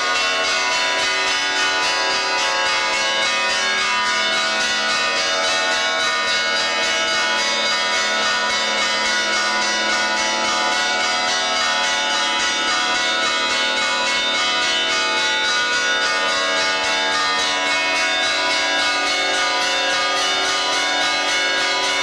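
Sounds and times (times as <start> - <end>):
church bells pealing: 0.0 - 22.0.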